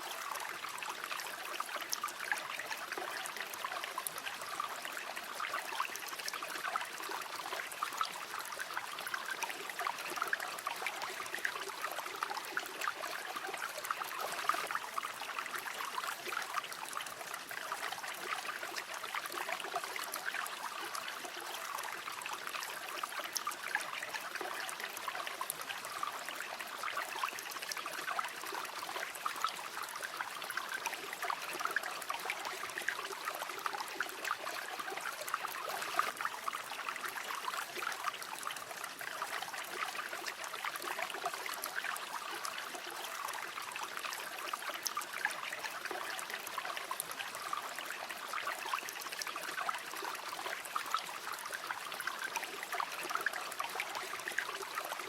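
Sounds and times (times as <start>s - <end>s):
river water babbling: 0.0s - 55.0s.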